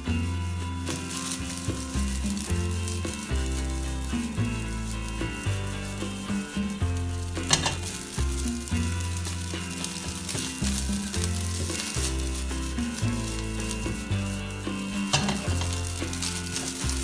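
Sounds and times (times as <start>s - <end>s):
background music: 0.0s - 17.0s
rice sizzling in a wok: 0.0s - 17.0s
spatula scraping wok: 0.0s - 17.0s.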